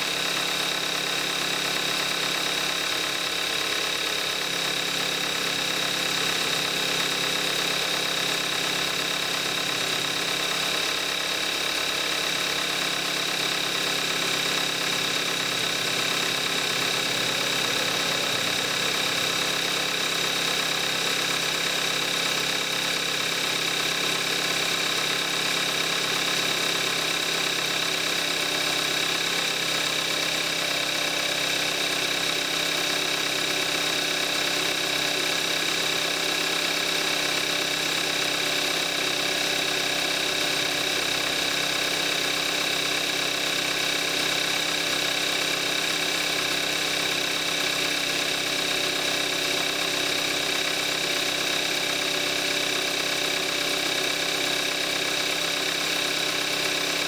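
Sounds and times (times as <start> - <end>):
car engine idling: 6.0 - 57.0.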